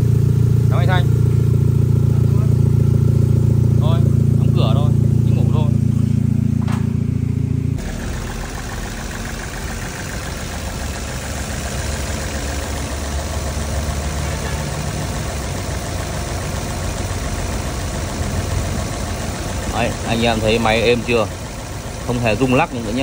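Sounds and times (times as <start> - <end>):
car engine idling: 0.0 - 23.0
loud low hum: 0.0 - 23.0.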